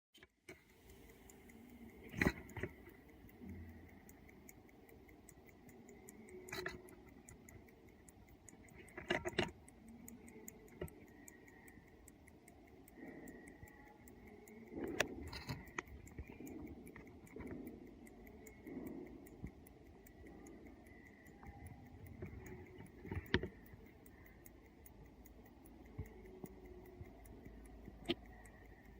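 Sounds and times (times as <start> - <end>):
alarm clock ticking: 0.5 - 28.9.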